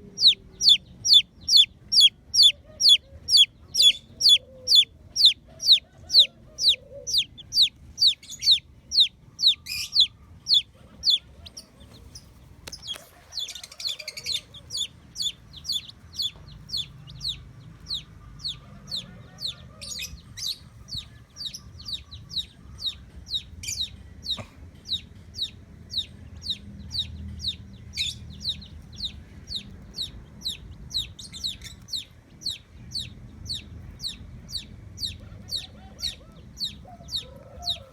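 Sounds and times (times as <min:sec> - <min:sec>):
chicks peeping: 0:00.0 - 0:37.9.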